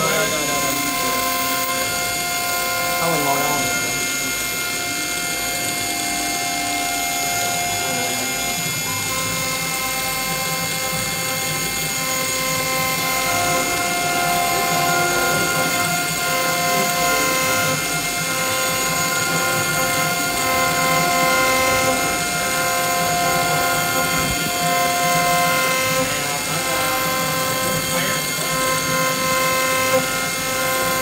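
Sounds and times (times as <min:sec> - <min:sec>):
end mill cutting: 0:00.0 - 0:31.0
milling machine spindle whine: 0:00.0 - 0:31.0.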